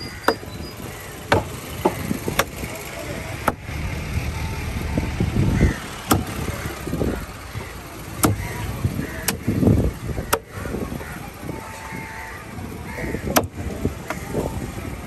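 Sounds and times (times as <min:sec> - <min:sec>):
low outdoor rumble: 0:00.0 - 0:15.0
voices: 0:00.0 - 0:15.0.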